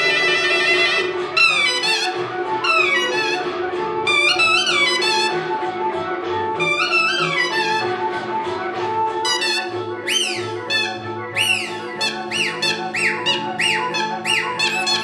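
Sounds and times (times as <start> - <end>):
suona playing folk melody: 0.0 - 15.0.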